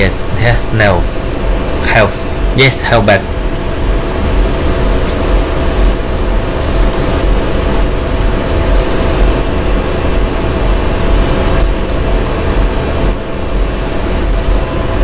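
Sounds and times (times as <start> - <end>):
loud background rumble: 0.0 - 15.0
low hum: 0.0 - 15.0.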